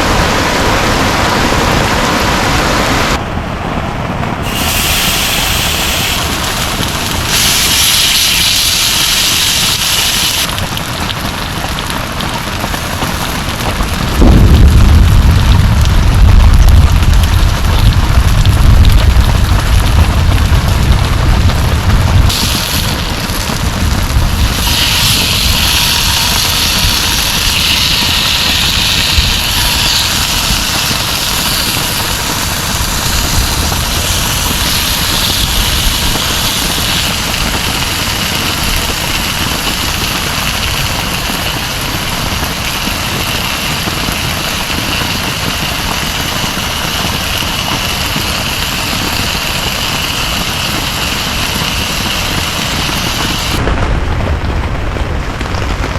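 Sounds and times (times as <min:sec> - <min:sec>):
low rumble: 0:00.0 - 0:42.8, 0:50.6 - 0:55.9
heavy rain falling: 0:00.0 - 0:55.9.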